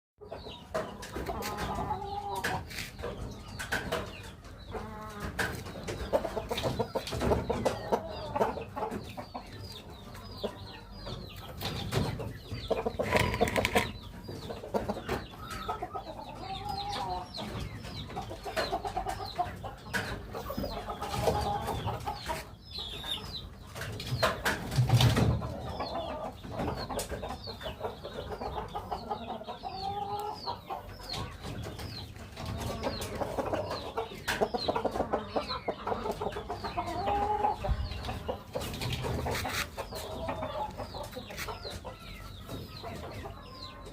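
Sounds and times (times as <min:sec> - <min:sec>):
chickens clucking: 0:00.2 - 0:43.9.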